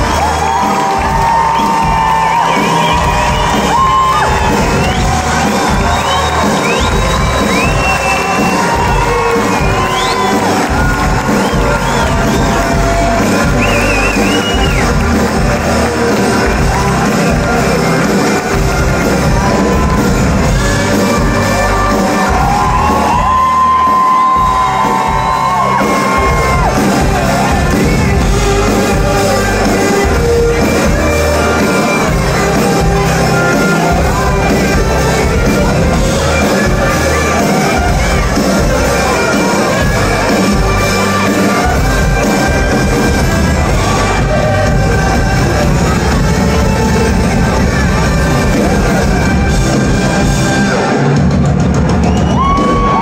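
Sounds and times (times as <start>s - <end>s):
crowd whooping and shouting: 0.0s - 53.0s
live pop-rock band: 0.0s - 53.0s.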